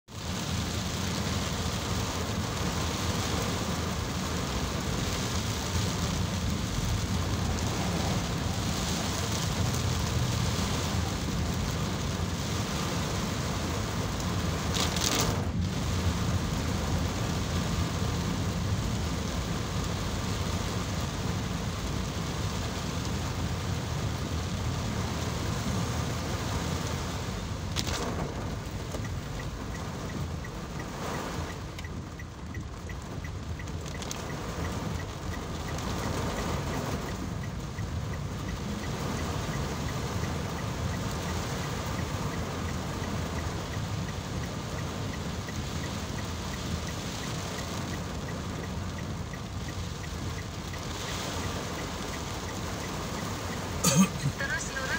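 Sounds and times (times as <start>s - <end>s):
heavy rain on car roof: 0.0s - 54.9s.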